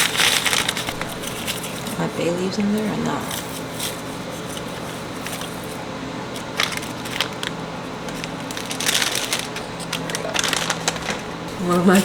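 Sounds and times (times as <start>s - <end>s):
spices crackling and rustling: 0.0s - 12.0s.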